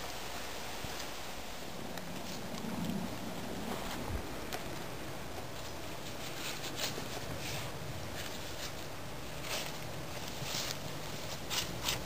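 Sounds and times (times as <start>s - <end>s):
dry leaves rustling and crackling: 0.0s - 12.0s
low background noise: 0.0s - 12.0s.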